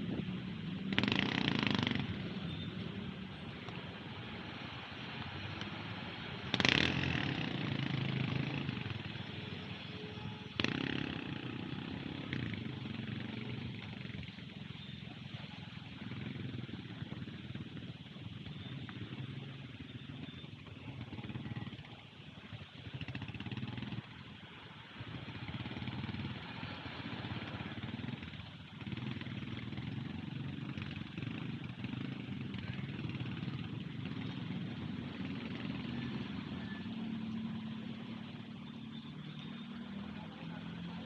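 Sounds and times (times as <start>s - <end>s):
motorcycle engines: 0.0s - 41.0s
tyres on wet road: 0.0s - 41.0s.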